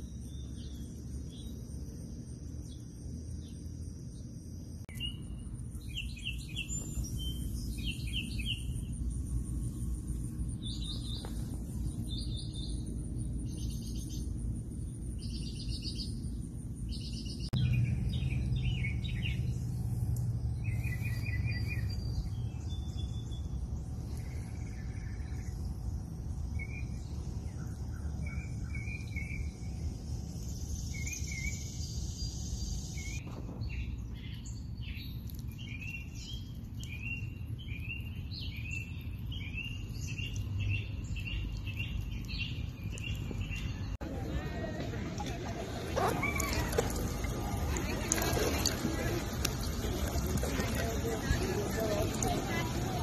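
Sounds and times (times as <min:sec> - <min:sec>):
small birds chirping: 0:00.0 - 0:53.0
steady low rumble: 0:00.0 - 0:53.0.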